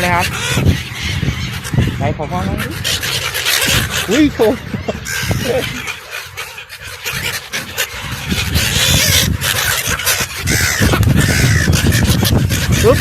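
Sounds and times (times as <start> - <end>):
gulls calling: 0.0 - 13.0
wind rumbling on microphone: 0.0 - 13.0.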